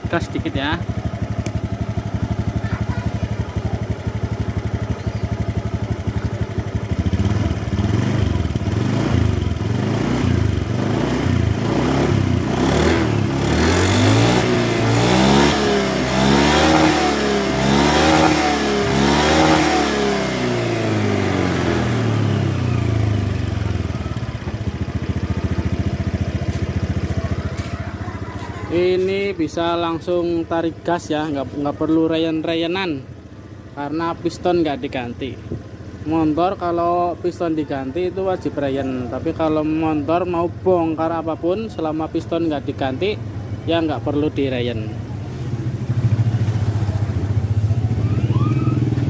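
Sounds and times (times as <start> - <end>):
scooter engine idling and revving: 0.0 - 49.0.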